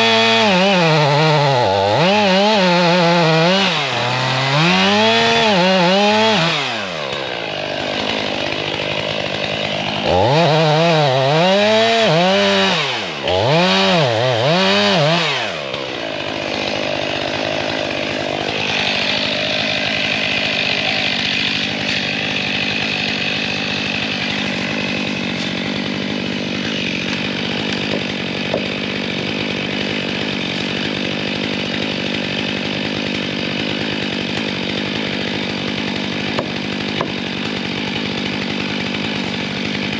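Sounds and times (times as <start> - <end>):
chainsaw idling: 0.0 - 39.9
chainsaw revving: 0.0 - 39.9.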